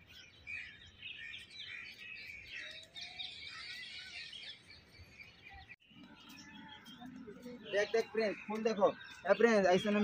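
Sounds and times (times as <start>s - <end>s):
birds chirping and twittering: 0.0s - 10.0s.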